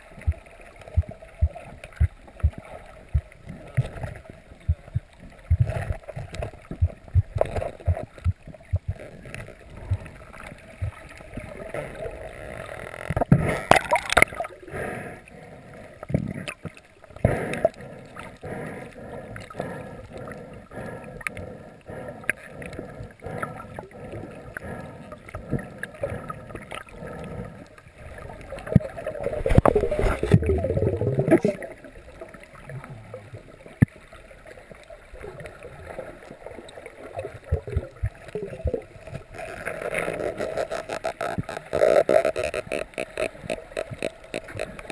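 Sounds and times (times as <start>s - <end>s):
muffled underwater water movement: 0.0s - 44.9s.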